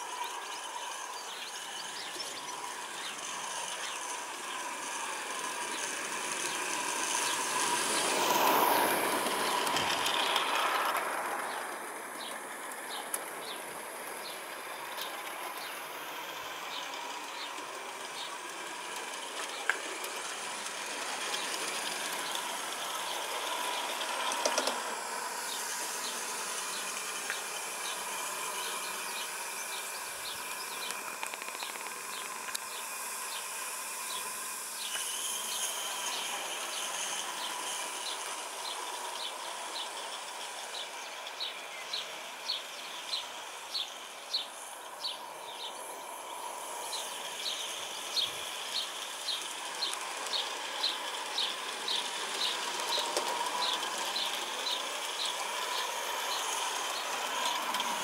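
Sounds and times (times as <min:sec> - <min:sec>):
model train clicking: 0:00.0 - 0:58.0
soft steady steam hiss: 0:00.0 - 0:58.0.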